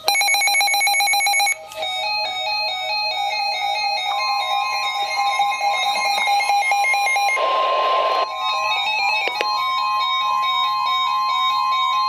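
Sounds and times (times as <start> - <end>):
electronic melody music: 1.8 - 12.0.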